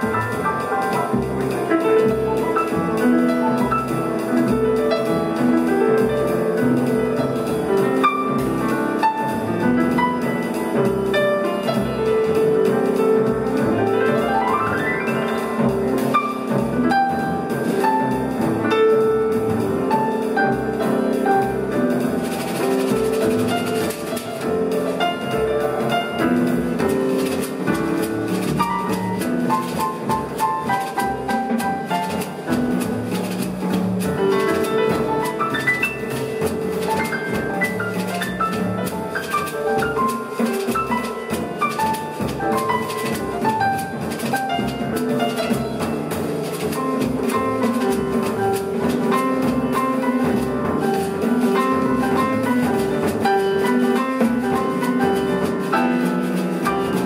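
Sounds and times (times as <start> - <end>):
double bass: 0.0 - 57.0
drums and cymbals: 0.0 - 57.0
piano: 0.0 - 57.0.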